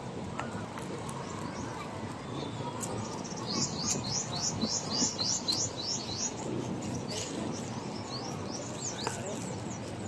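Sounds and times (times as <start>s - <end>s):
songbird chirping: 1.0s - 10.0s.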